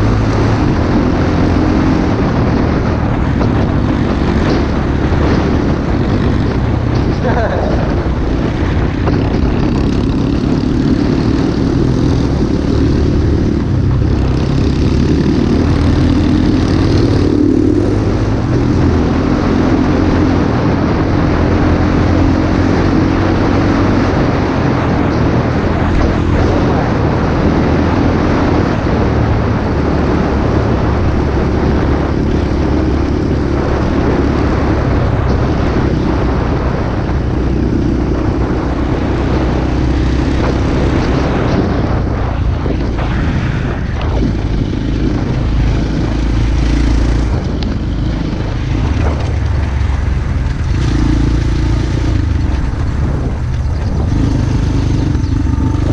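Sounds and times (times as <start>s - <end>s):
pit bike engine running: 0.0s - 55.9s.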